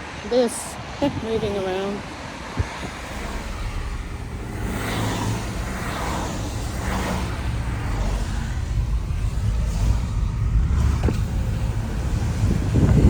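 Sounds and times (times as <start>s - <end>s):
cars passing by: 0.0s - 13.0s
traffic road noise: 0.0s - 13.0s.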